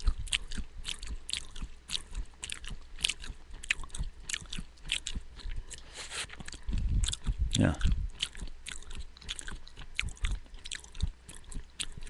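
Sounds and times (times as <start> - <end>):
crisp crunchy chewing: 0.0 - 12.0
mouth clicks: 0.0 - 12.0.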